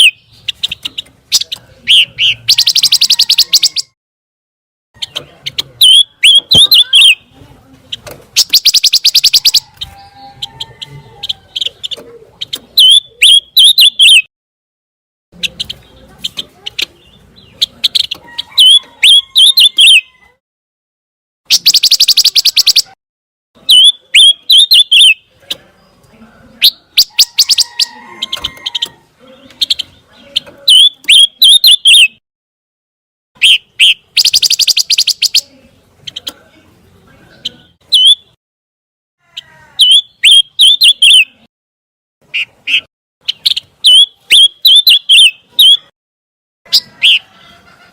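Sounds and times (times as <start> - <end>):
songbird chirping and trilling: 0.0 - 4.0, 5.0 - 14.3, 15.4 - 20.4, 21.5 - 23.0, 23.6 - 32.2, 33.4 - 38.4, 39.2 - 41.5, 42.2 - 45.9, 46.7 - 47.9.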